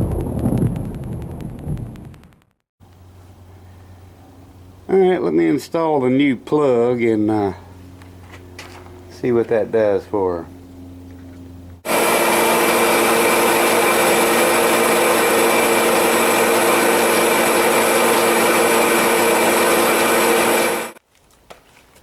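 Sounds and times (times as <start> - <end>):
heater motor and fan whirring: 2.8 - 21.0.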